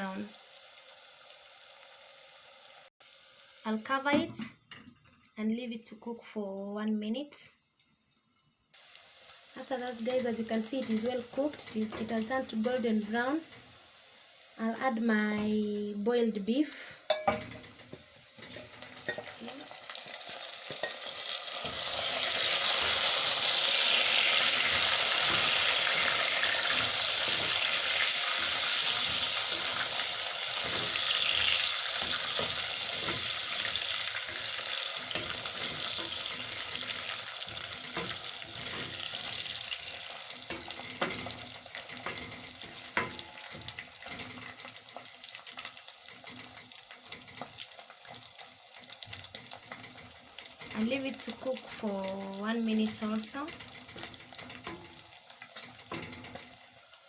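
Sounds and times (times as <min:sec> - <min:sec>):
meat sizzling in hot oil: 0:00.0 - 0:04.2, 0:08.7 - 0:57.0.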